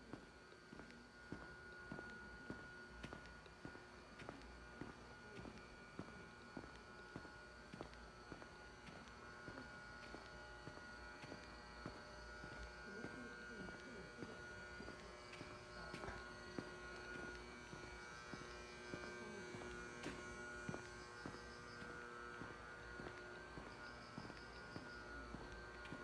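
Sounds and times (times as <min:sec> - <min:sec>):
electrical hum: 0:00.0 - 0:26.0
faint footsteps walking: 0:00.0 - 0:26.0.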